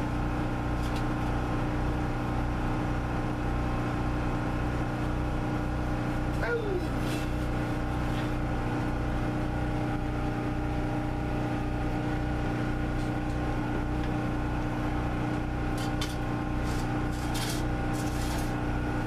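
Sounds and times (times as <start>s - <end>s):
engine running with low throb: 0.0s - 19.0s.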